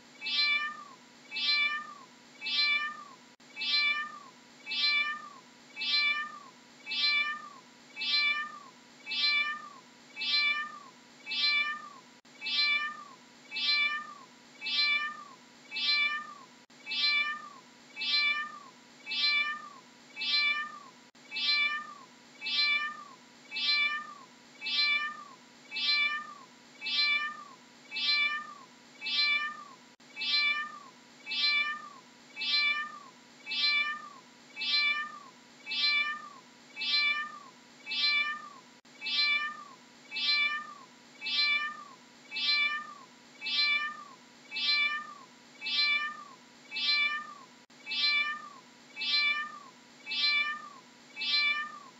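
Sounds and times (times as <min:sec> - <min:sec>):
cat meowing: 0:00.2 - 0:51.9.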